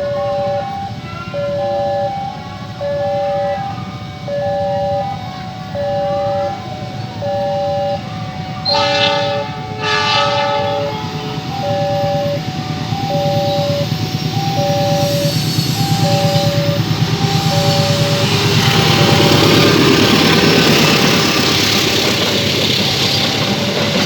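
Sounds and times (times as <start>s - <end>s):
train horn: 0.0s - 21.6s
two-tone crossing siren: 0.0s - 24.0s.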